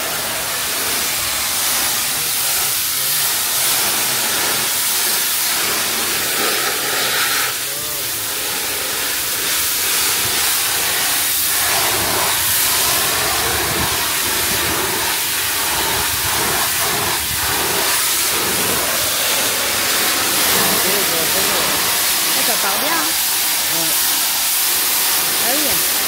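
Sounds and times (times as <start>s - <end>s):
pressure washer spraying hull: 0.0s - 26.0s.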